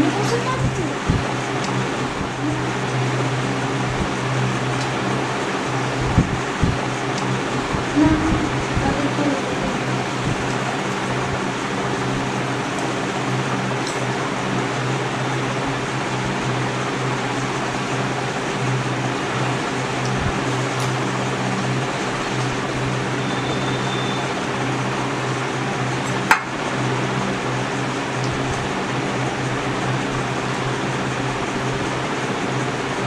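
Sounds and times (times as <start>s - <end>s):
fan motor whirring: 0.0s - 33.0s.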